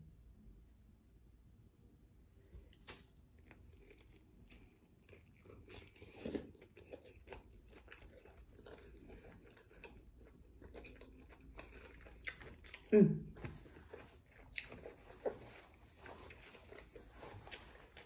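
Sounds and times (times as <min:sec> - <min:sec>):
person biting and chewing food: 0:02.6 - 0:18.0.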